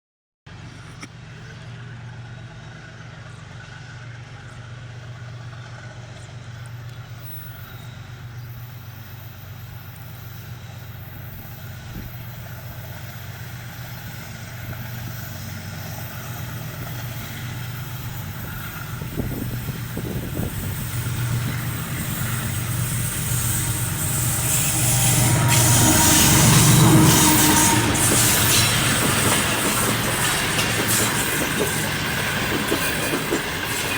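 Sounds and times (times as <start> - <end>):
diesel locomotive engine chugging: 0.5 - 33.9
rushing rail and wheel noise: 0.5 - 33.9.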